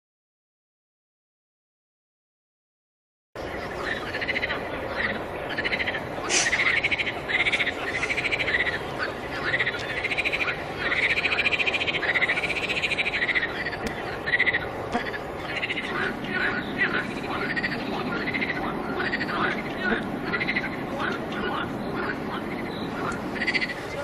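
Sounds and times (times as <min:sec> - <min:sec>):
frogs croaking in chorus: 0:03.4 - 0:24.0
steady background hiss: 0:03.4 - 0:24.0.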